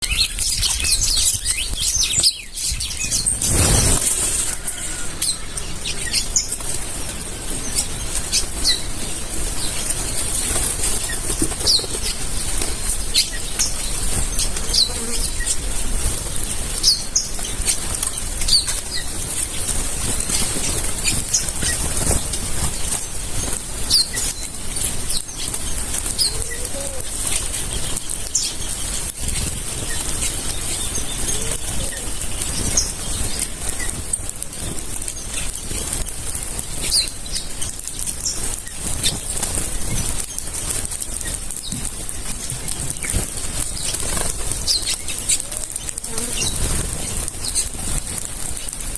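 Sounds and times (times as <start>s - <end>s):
birds chirping: 0.0s - 48.8s
birds wings flapping: 0.1s - 48.9s.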